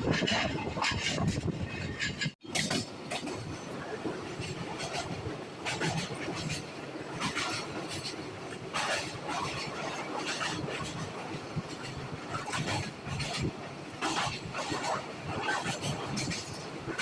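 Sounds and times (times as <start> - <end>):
train rumbling at speed: 0.0 - 17.0
wheels clattering over rail joints: 0.0 - 17.0.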